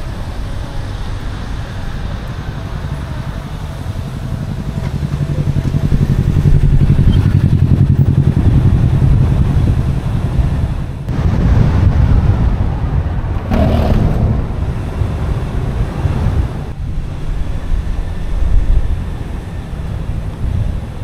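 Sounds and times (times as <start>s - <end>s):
car road rumble: 0.0s - 21.0s
wind buffeting microphone: 0.0s - 21.0s.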